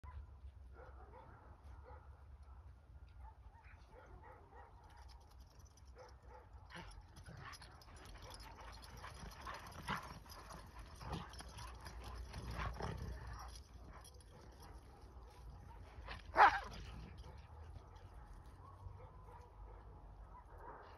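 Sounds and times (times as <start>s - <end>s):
dogs playing and wrestling: 3.2s - 20.9s.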